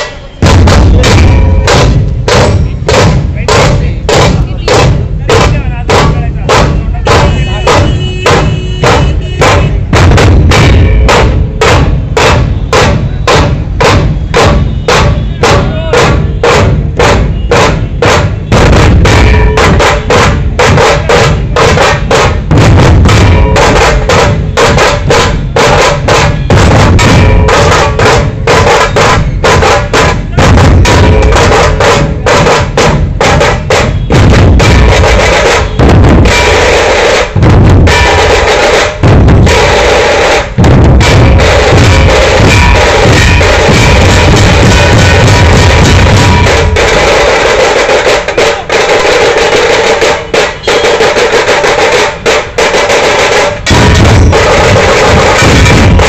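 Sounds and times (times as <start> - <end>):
barrel drums playing fast rhythm: 0.0 - 56.0.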